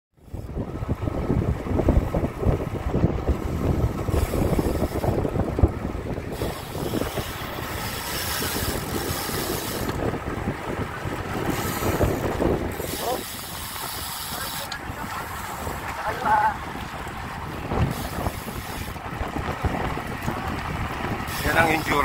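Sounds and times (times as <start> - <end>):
wind buffeting microphone: 0.2 - 22.0.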